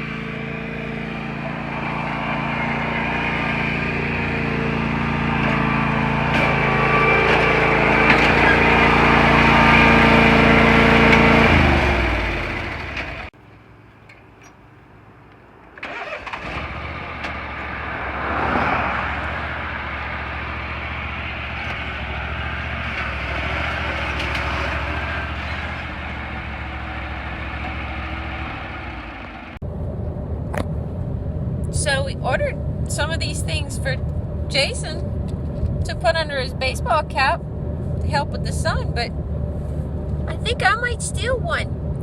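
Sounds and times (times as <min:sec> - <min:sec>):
ride-on lawn mower engine: 0:00.0 - 0:42.0.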